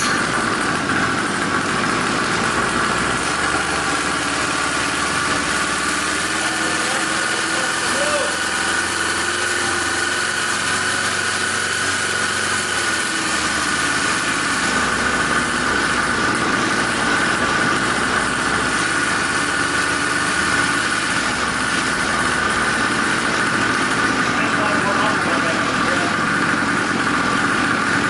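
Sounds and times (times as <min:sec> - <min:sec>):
small two-stroke engine running: 0:00.0 - 0:28.0.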